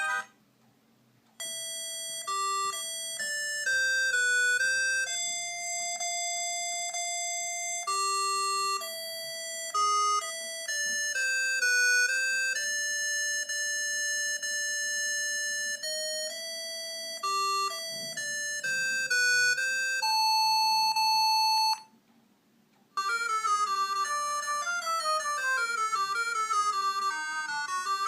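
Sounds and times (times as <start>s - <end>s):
electronic phone ringtone melody: 0.0s - 0.3s, 1.4s - 21.9s, 23.0s - 28.0s.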